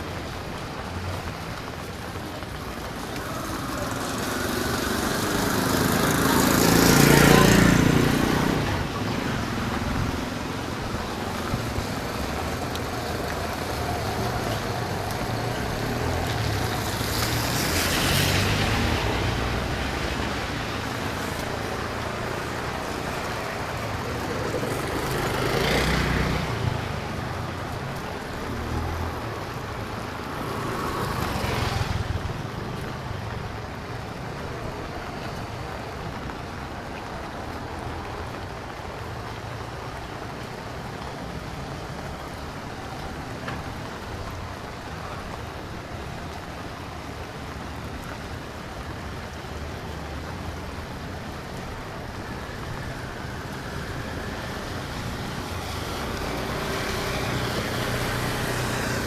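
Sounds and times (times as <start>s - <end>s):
motor vehicles passing: 0.0s - 59.0s
road noise: 0.0s - 59.0s.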